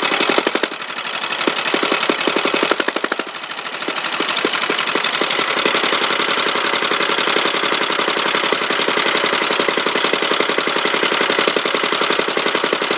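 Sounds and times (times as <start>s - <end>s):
stationary engine running: 0.0s - 12.9s.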